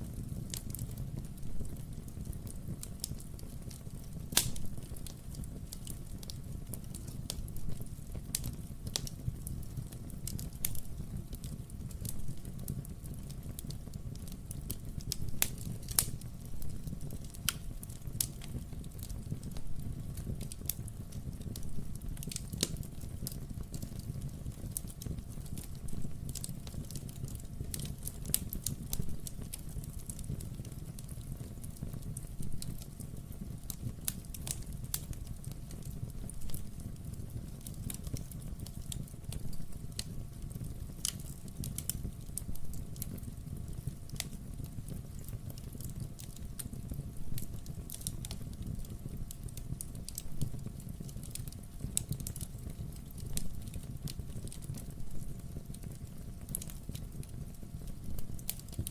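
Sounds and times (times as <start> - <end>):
burning logs popping and snapping: 0.0 - 58.9
low rumble of flames: 0.0 - 58.9.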